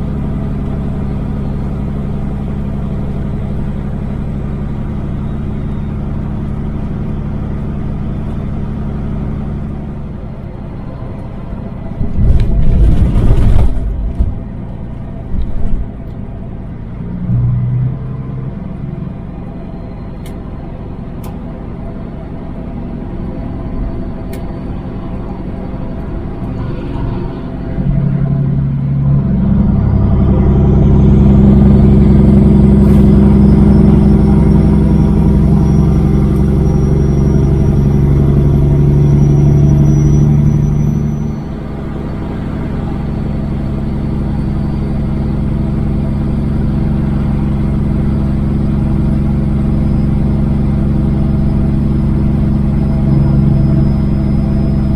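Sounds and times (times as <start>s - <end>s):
diesel truck engine: 0.0s - 54.9s.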